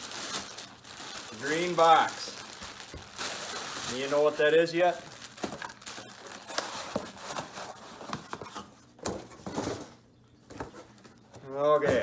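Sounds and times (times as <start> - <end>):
cardboard box rustling: 0.2 - 11.1.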